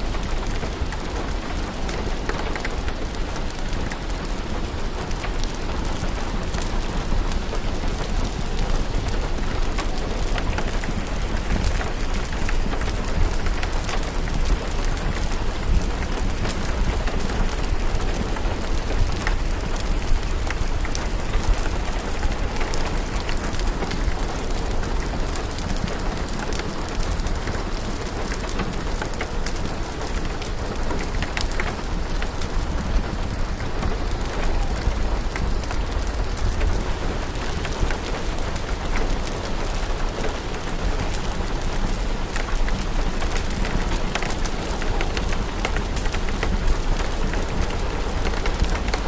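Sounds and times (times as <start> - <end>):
steady rain hiss: 0.0 - 49.0
sharp ticks and crackles: 0.1 - 49.0.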